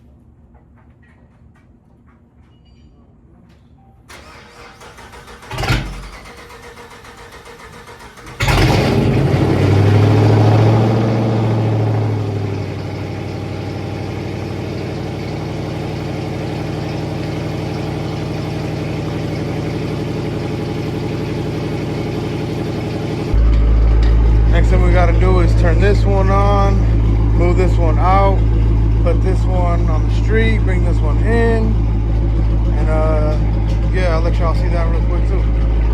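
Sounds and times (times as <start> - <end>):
car engine starting and idling: 4.1 - 35.9.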